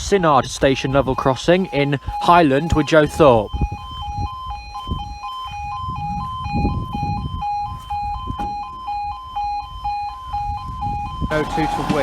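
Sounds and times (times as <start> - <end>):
electronic two-tone crossing alarm: 0.0 - 12.0.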